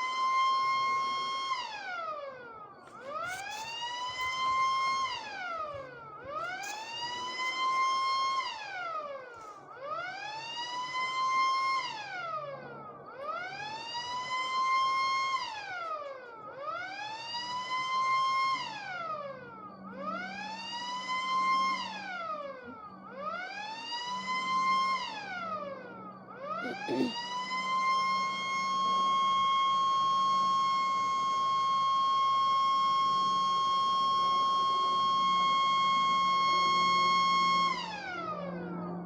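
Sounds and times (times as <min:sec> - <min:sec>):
siren wailing: 0:00.0 - 0:39.0.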